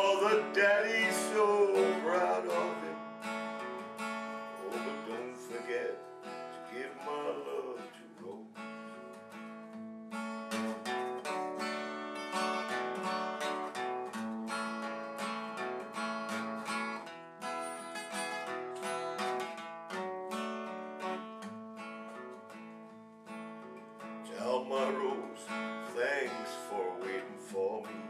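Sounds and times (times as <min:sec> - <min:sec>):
acoustic guitar strumming and picking: 0:00.0 - 0:28.0.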